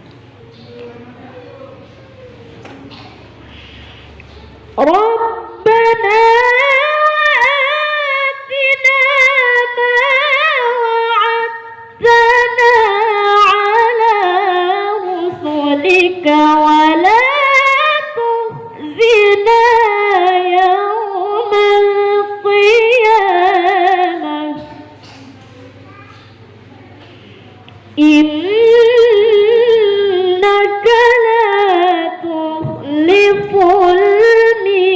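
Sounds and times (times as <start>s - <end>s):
boy chanting recitation: 0.3s - 34.9s.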